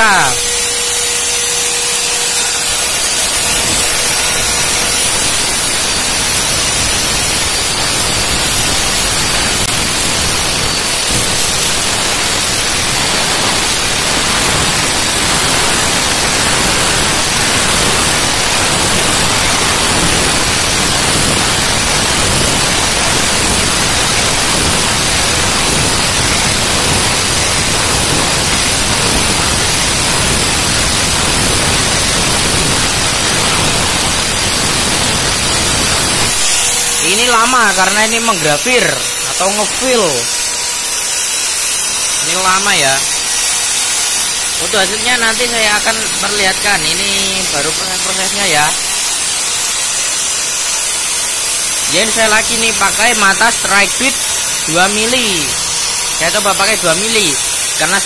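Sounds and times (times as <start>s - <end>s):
router spindle engraving foam: 0.0s - 58.0s.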